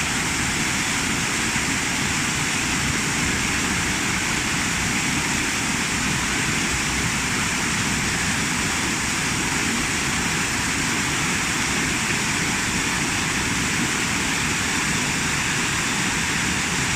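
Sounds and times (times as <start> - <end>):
waterfall rapids rushing: 0.0 - 16.9.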